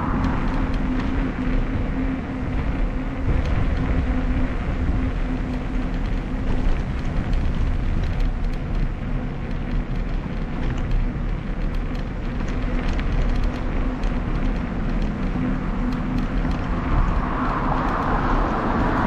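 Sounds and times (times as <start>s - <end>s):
road rumble: 0.0s - 19.0s
small ticks: 0.0s - 19.0s
wind buffeting microphone: 0.0s - 19.0s.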